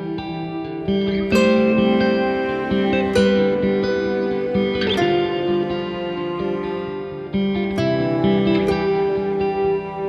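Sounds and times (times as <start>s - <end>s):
guitar playing held chords: 0.0s - 10.0s.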